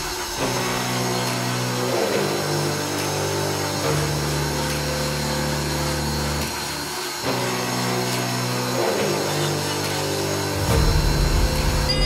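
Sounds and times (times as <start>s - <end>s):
rotary carving tool sanding wood: 0.0s - 10.8s.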